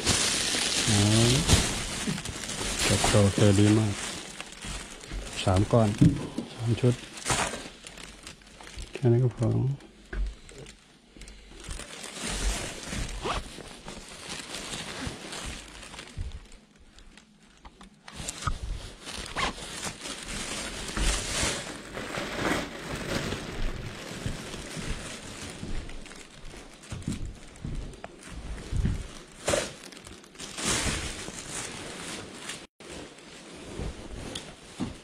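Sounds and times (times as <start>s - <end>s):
rustling and crinkling handling: 0.0s - 35.0s.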